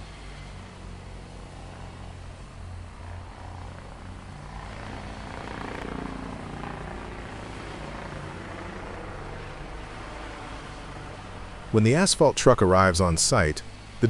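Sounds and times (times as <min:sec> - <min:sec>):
diesel machinery droning: 0:00.0 - 0:14.0.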